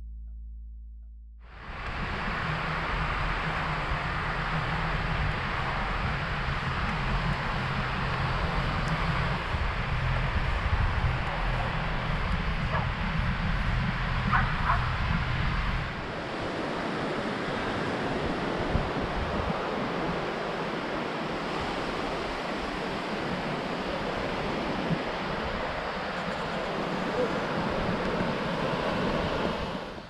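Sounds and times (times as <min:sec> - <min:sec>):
wind rumbling on microphone: 0:01.4 - 0:30.0
surf washing on beach: 0:01.5 - 0:30.0.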